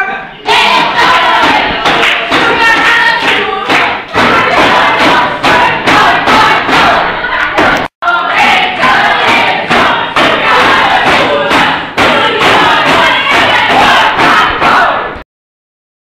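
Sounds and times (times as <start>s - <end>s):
group singing and shouting: 0.0s - 15.2s.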